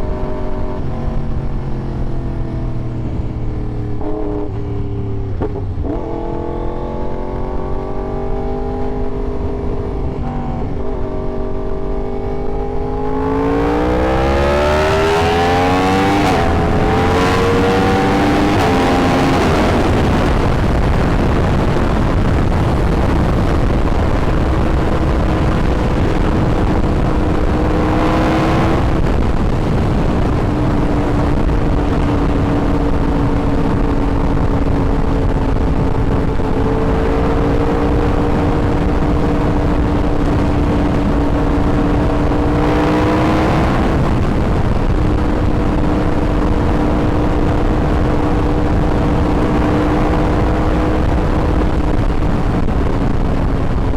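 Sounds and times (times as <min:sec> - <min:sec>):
motorcycle engine running: 0:00.0 - 0:53.9
steady rushing noise: 0:00.0 - 0:53.9.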